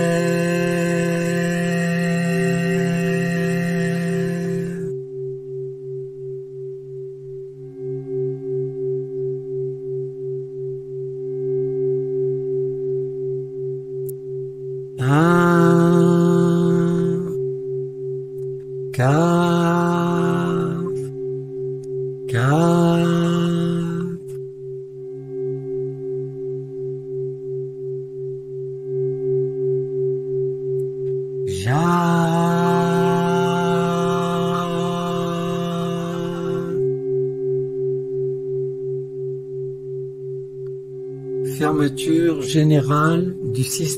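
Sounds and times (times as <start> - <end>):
pulsing meditation drone: 0.0 - 43.9.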